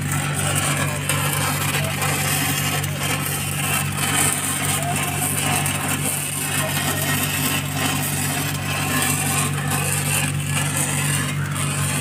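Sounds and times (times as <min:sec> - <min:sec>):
low machine hum: 0:00.0 - 0:12.0
welding arc crackling: 0:00.0 - 0:12.0.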